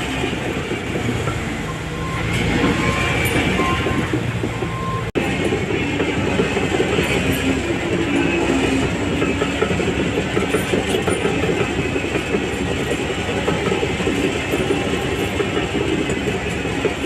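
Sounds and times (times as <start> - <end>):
bulldozer diesel engine: 0.0 - 17.0
steel tracks clattering: 0.0 - 17.0.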